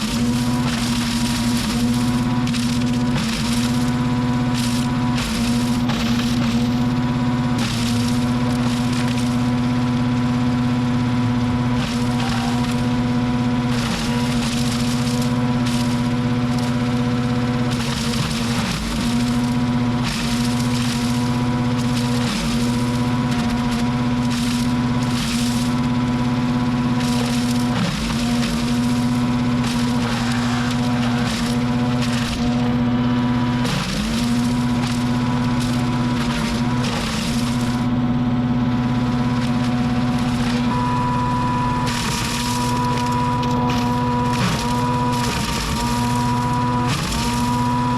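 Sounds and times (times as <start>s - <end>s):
small petrol engine running: 0.0s - 47.9s.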